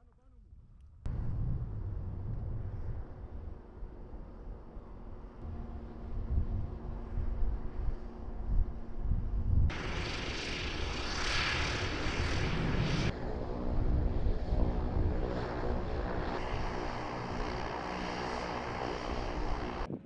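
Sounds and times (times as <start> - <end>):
aircraft engines droning: 1.1 - 20.0.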